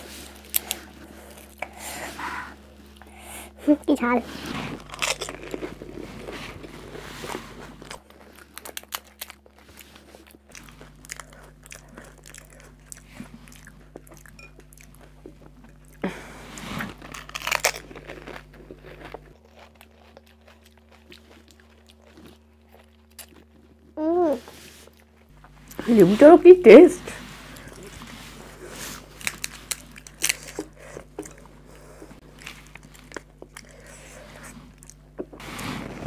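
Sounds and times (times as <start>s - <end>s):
crunchy food being chewed: 0.0s - 3.2s, 4.3s - 25.8s, 27.3s - 36.0s.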